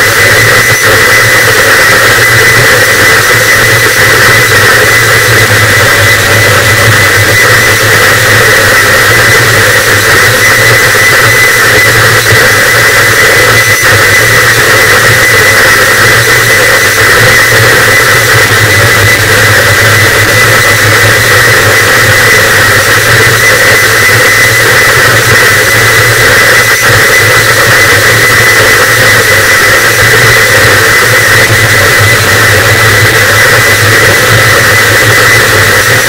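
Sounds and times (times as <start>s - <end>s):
distorted noise wall: 0.0s - 36.0s.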